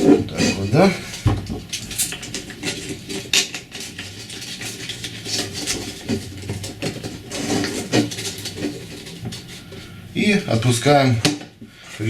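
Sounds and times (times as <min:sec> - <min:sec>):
clicks taps and rubbing: 0:00.0 - 0:10.2.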